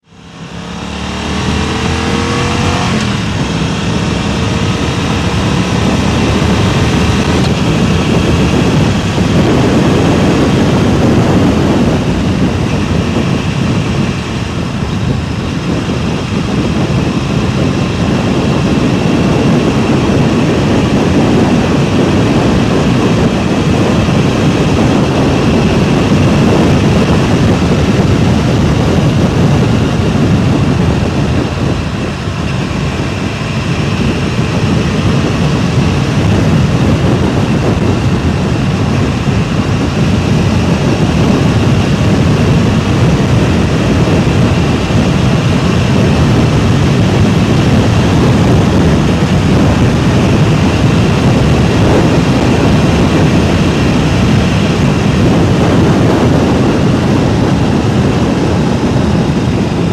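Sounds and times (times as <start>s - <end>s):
engine speeding up: 0.0s - 59.9s
wind buffeting microphone: 0.0s - 59.9s.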